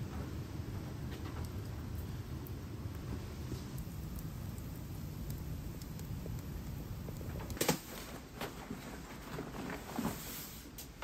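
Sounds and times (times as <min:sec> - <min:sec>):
fire crackling: 0:00.0 - 0:11.0
low fire rumble: 0:00.0 - 0:11.0.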